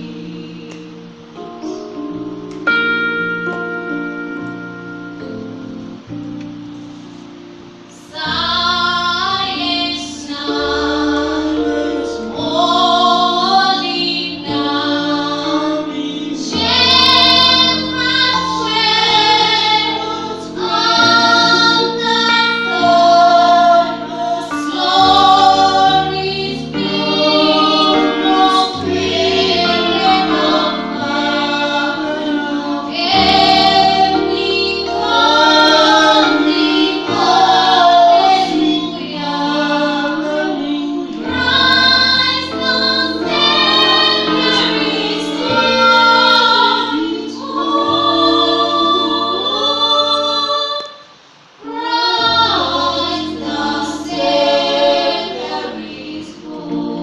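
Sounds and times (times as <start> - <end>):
choir singing a hymn: 0.0 - 2.0, 7.1 - 57.0
electronic keyboard chords: 0.0 - 50.6.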